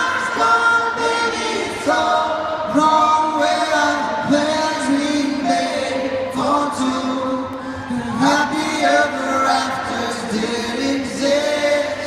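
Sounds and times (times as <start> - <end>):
live pop band: 0.0 - 12.0.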